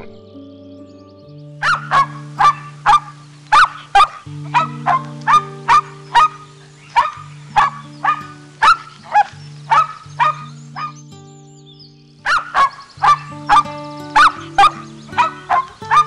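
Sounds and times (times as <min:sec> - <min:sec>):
soft background music: 0:00.0 - 0:16.0
dog barking: 0:01.6 - 0:11.0, 0:12.2 - 0:16.0.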